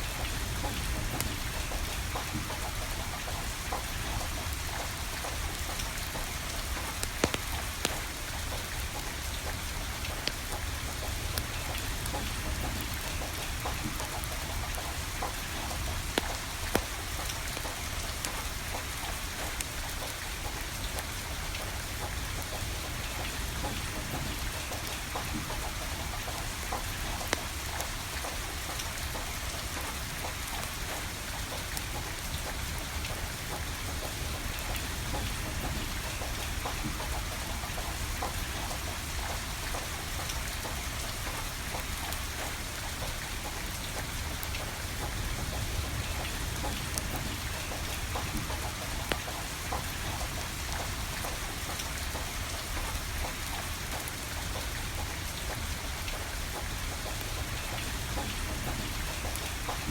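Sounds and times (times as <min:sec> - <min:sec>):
steady rain falling: 0:00.0 - 0:59.9
wood fire crackling: 0:00.1 - 0:54.1.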